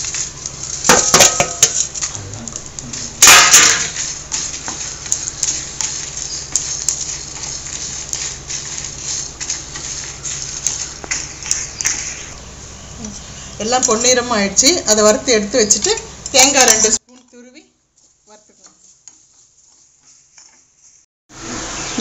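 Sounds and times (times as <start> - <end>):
roasting crackles: 0.0 - 22.0.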